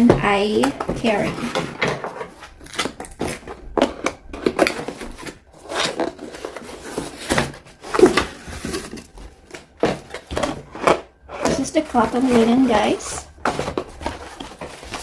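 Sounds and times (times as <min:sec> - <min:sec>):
cardboard and plastic rustling: 0:00.0 - 0:15.0.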